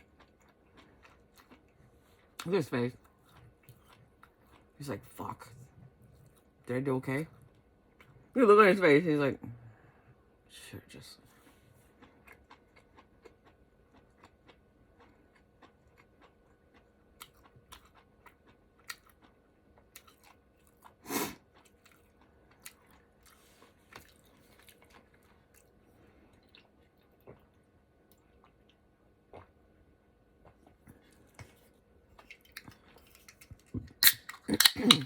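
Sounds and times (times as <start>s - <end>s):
person chewing noodles: 0.0s - 6.6s, 11.3s - 35.0s.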